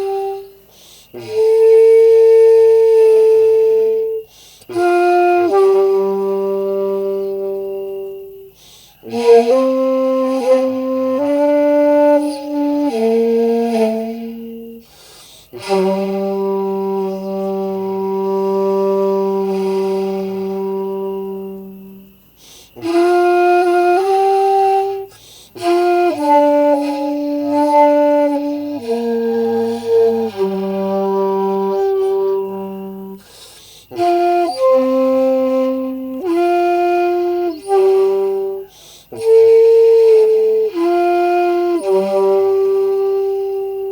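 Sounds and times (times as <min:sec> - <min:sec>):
bamboo flute slow melody: 0:00.0 - 0:43.9.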